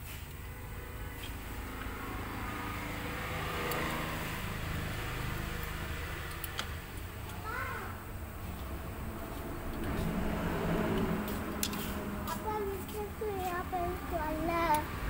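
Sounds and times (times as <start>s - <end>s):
motor vehicle running: 0.0s - 15.0s
low hum: 0.3s - 15.0s.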